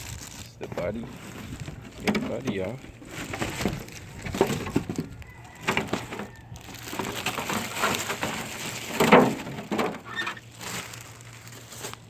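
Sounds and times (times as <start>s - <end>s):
plastic packaging crackling: 0.0s - 12.0s.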